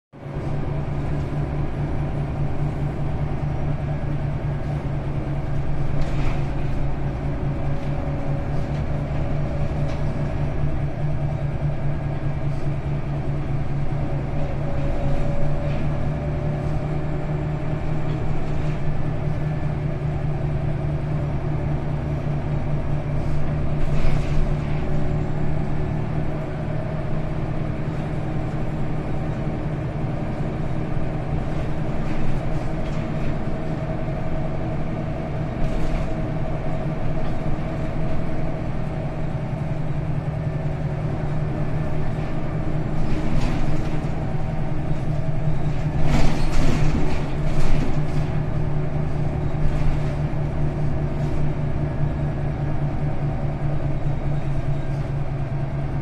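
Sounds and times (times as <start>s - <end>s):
bus diesel engine droning: 0.2s - 56.0s.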